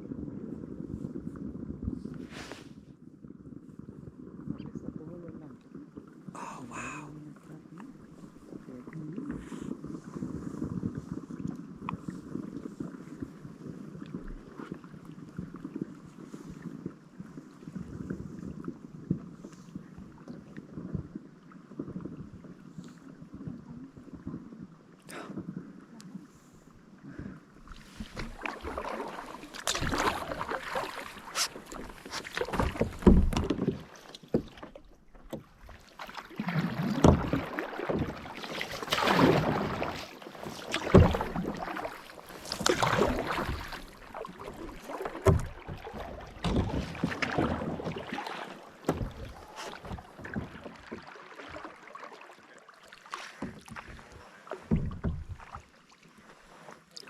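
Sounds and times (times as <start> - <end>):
kayak paddles splashing water: 5.6 - 57.0.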